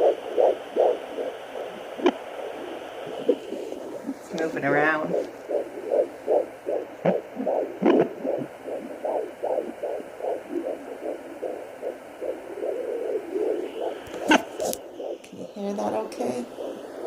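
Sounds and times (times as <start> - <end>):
fetal heartbeat whooshing pulse: 0.0 - 17.0.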